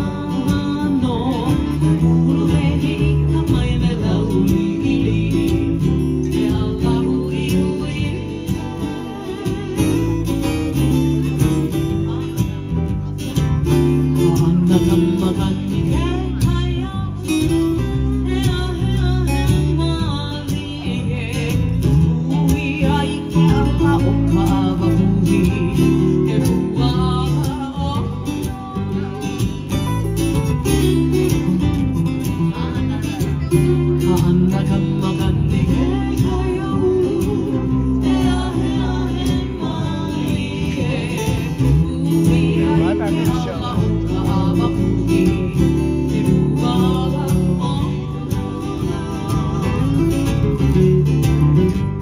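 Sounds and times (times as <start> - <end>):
person singing: 0.0 - 51.8
acoustic guitars and ukulele strumming: 0.0 - 52.0.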